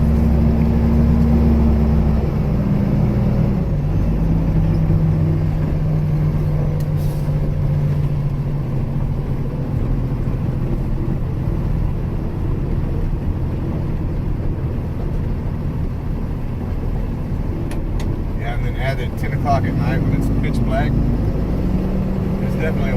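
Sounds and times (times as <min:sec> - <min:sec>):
truck engine humming: 0:00.0 - 0:22.9.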